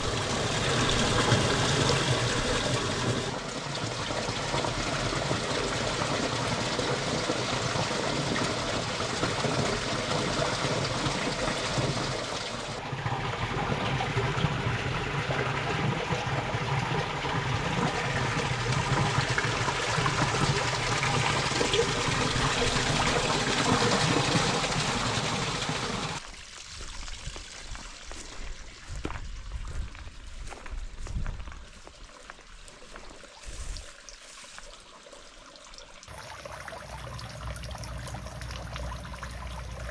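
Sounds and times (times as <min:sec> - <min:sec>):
water running in a channel: 0:00.0 - 0:39.9.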